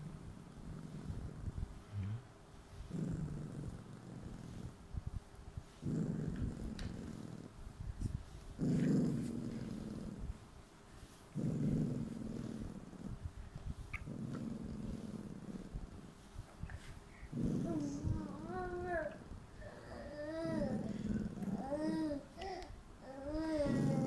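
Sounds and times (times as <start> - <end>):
dog purring rumble: 0.0 - 24.0.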